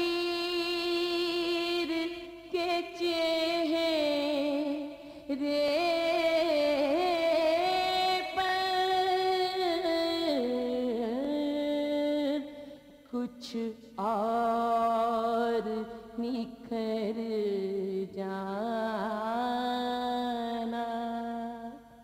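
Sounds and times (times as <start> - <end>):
woman singing a lament: 0.0 - 22.0.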